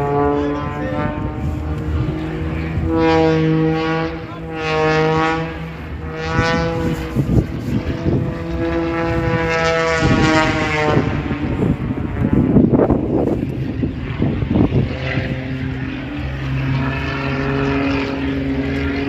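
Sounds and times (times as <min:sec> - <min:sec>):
propeller aircraft engine drone: 0:00.0 - 0:19.0.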